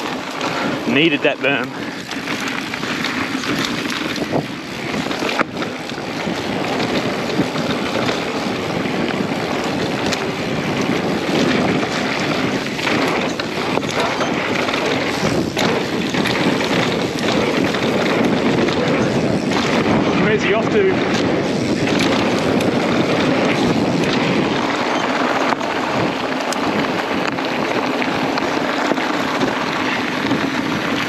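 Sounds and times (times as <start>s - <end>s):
bike tyres rolling on dirt: 0.0s - 31.0s
wind over microphone: 0.0s - 31.0s.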